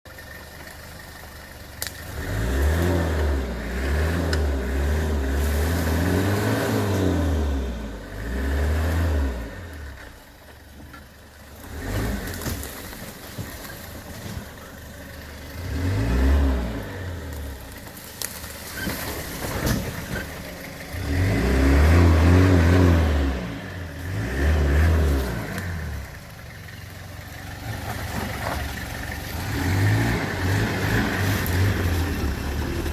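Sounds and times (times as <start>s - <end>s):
diesel engine revving: 0.1s - 32.9s.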